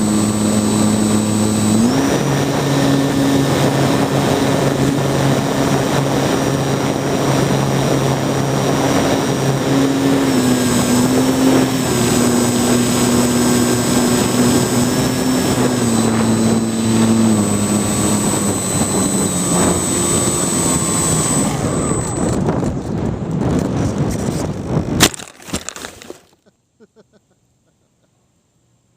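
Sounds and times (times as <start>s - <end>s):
drone motor and propellers: 0.0s - 24.9s
heavy wind noise: 0.0s - 25.2s.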